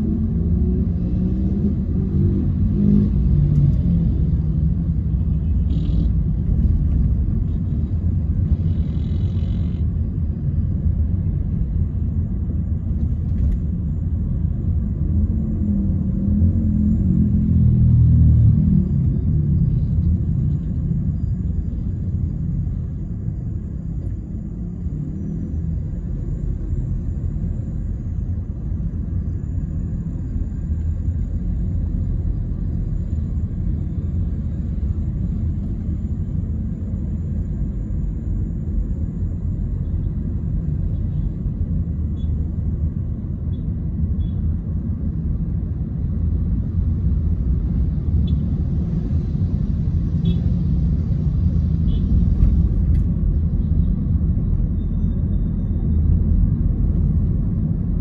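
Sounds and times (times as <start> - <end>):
car interior engine and tyre rumble: 0.0 - 58.0.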